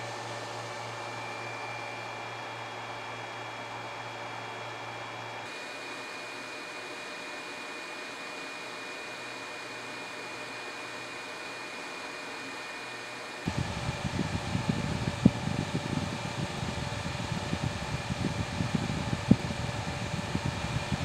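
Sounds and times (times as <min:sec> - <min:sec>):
heater fans whirring: 0:00.0 - 0:21.0.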